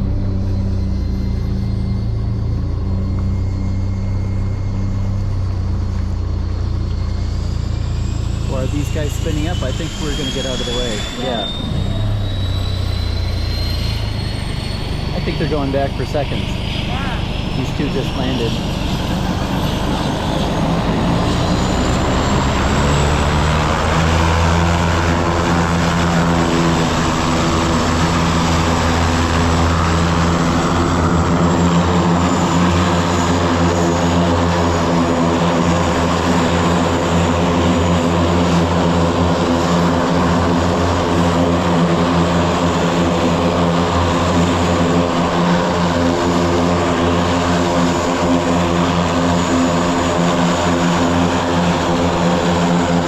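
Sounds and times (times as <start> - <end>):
propeller engine droning: 0.0 - 53.0.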